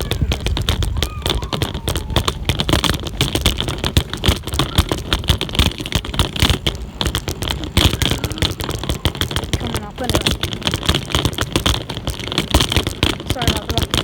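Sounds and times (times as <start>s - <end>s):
bicycle rolling rumble: 0.0s - 14.0s.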